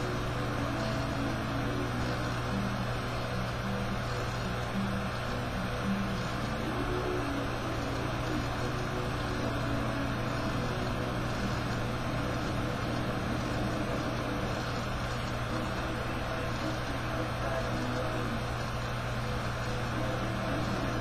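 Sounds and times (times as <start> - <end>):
low droning hum: 0.0 - 21.0.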